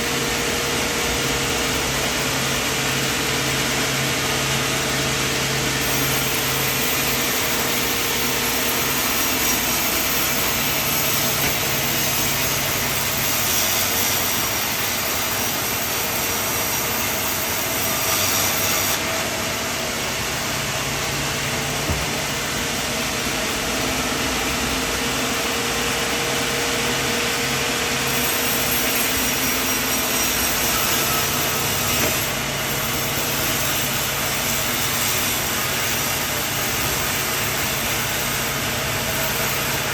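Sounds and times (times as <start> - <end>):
blade sawing wood: 0.0 - 39.9
sawmill engine humming: 0.0 - 39.9.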